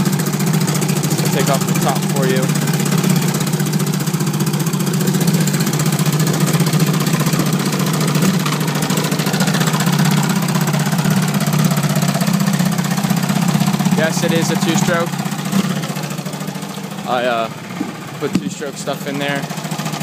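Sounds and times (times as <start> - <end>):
outboard motor running: 0.0 - 20.0
propeller churning water: 0.0 - 20.0.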